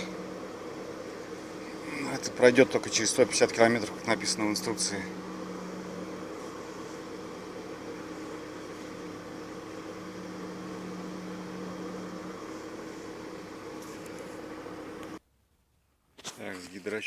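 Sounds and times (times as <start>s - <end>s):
power steering pump humming: 0.0s - 15.2s.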